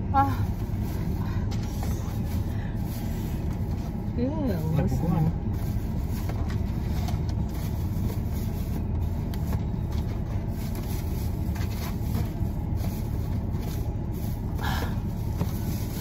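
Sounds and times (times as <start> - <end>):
low rumble inside vehicle cabin: 0.0 - 16.0.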